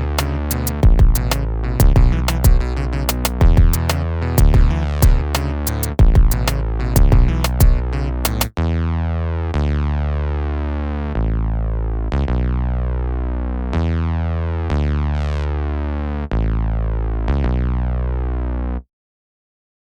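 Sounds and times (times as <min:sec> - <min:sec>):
synthesizer low sustained notes: 0:00.0 - 0:18.8.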